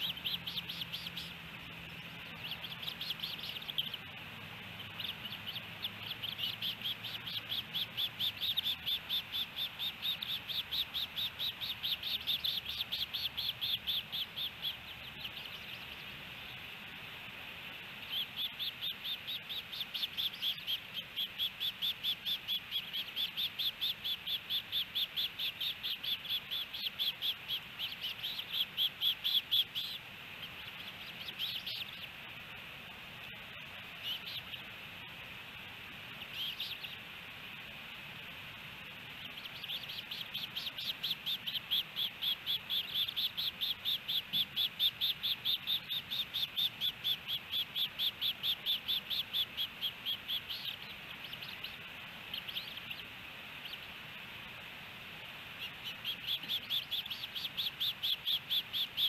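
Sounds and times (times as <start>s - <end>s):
osprey high whistled calls: 0.0s - 32.6s, 33.2s - 37.7s, 38.7s - 54.2s, 55.3s - 59.0s.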